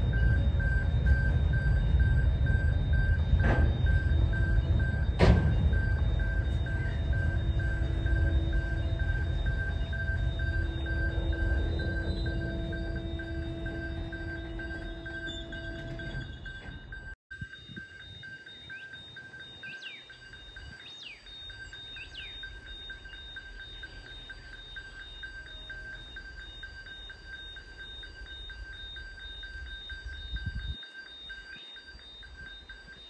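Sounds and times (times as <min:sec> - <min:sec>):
level crossing warning bell: 0:00.0 - 0:33.0
bird chirps: 0:03.3 - 0:16.8, 0:17.6 - 0:33.0.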